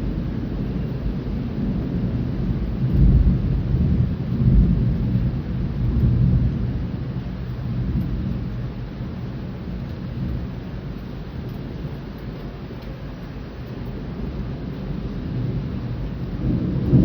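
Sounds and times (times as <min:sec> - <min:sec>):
rain hiss: 0:00.0 - 0:17.0
thunder rumbling: 0:00.0 - 0:17.0.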